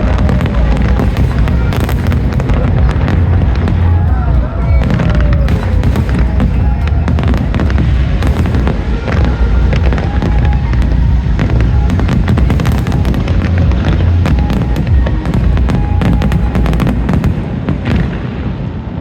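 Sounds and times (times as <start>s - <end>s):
music: 0.0s - 18.8s
deep fireworks booms: 0.0s - 19.0s
fireworks bangs and crackles: 0.0s - 19.0s.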